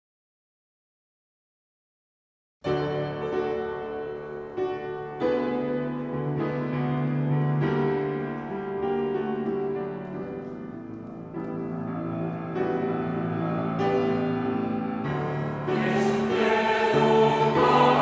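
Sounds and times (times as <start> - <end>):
grand piano chords: 2.6 - 18.0.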